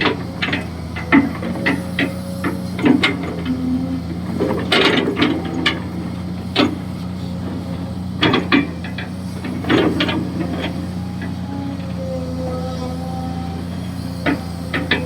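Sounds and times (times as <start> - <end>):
excavator engine running: 0.0 - 15.0
metallic clanks of excavator bucket: 0.0 - 15.0.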